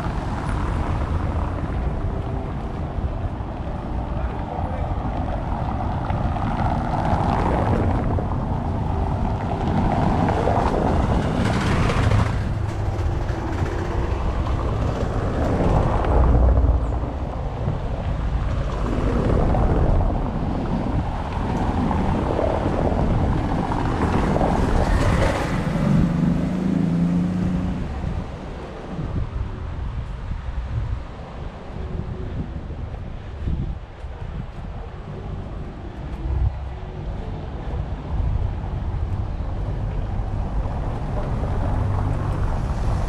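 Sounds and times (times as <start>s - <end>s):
cars driving on cobblestones: 0.0s - 43.0s
wind buffeting microphone: 0.0s - 43.0s.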